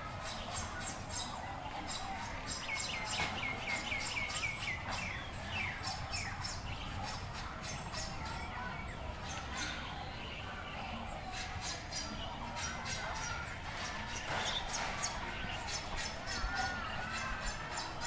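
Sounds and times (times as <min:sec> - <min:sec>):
distant murmur of children's voices: 0:00.0 - 0:18.0
small birds chirping: 0:00.0 - 0:18.0.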